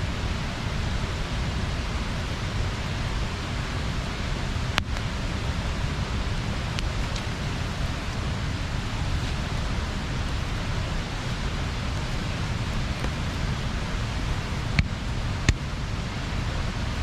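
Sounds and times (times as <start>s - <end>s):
river water over a weir: 0.0s - 17.0s.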